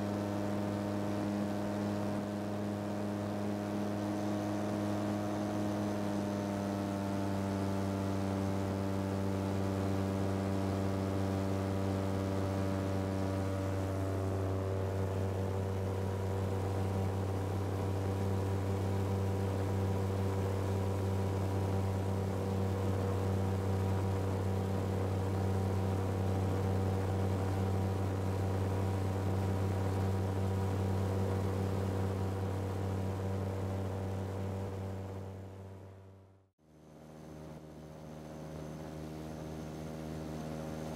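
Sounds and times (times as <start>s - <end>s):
aircraft engine and propeller drone: 0.0s - 40.9s.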